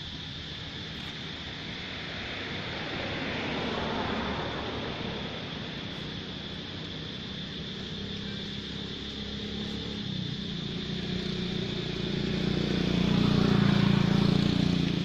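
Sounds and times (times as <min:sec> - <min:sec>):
vehicle engine passing by: 0:01.8 - 0:15.0.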